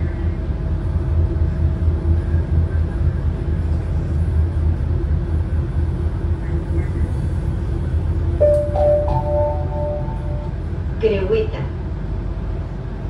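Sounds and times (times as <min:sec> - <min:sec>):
tram rumbling from inside: 0:00.0 - 0:13.0.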